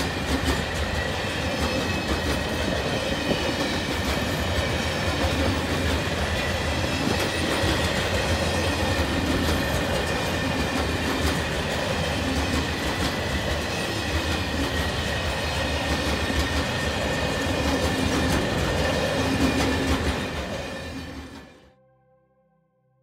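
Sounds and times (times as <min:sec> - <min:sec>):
freight train wheels clattering: 0:00.0 - 0:21.6.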